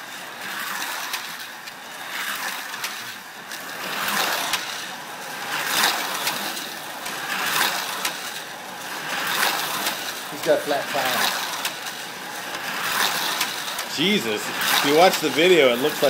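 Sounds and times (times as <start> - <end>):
toy slot cars whizzing past: 0.0 - 16.0.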